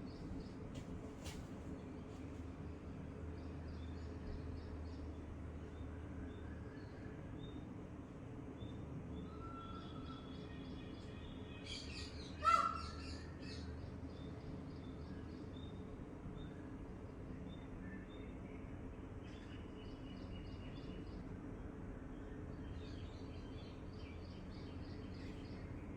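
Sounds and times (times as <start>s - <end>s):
steady low background noise: 0.0s - 25.9s.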